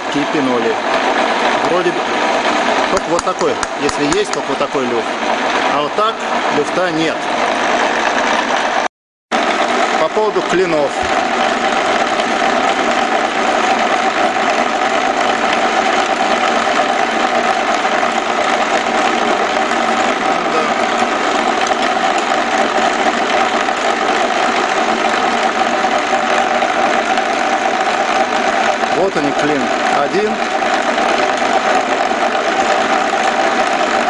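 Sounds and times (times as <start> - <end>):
lathe whirring and humming: 0.0 - 34.0.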